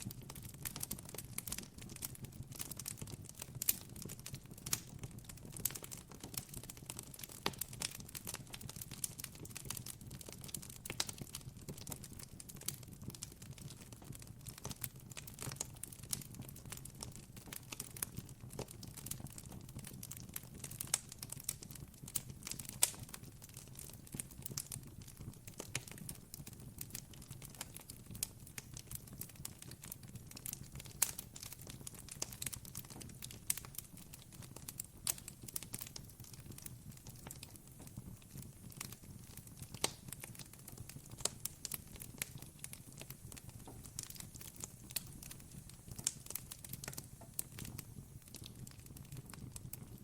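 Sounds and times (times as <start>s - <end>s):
campfire crackling: 0.1s - 50.0s.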